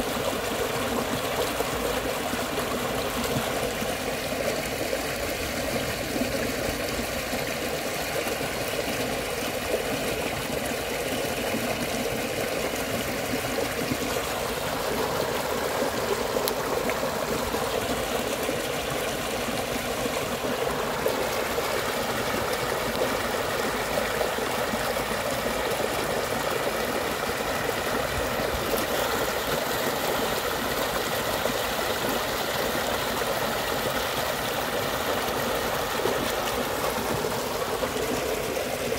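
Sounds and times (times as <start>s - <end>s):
stream rushing over drops: 0.0s - 38.9s.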